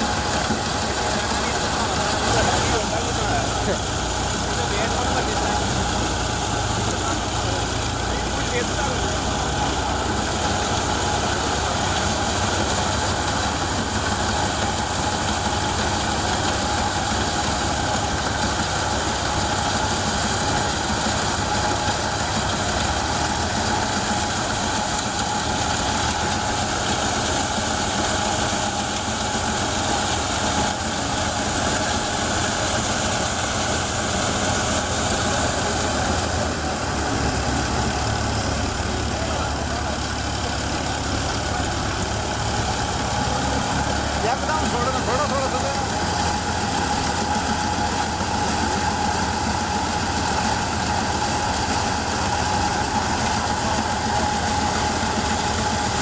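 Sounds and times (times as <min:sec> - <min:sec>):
threshing machine rushing: 0:00.0 - 0:56.0
tractor engine hum: 0:00.0 - 0:56.0.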